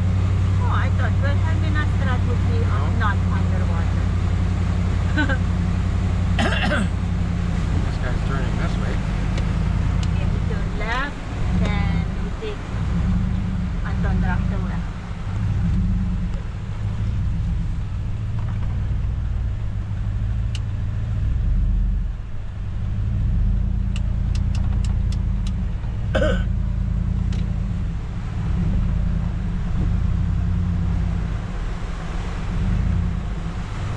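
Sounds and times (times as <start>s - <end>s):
truck engine rumbling: 0.0s - 33.9s.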